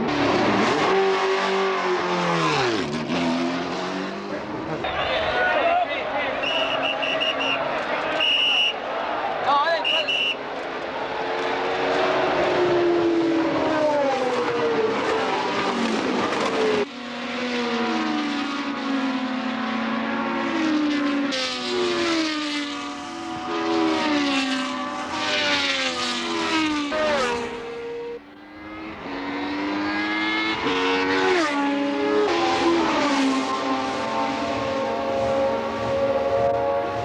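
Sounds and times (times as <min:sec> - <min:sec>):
racing car engines revving: 0:00.0 - 0:37.0.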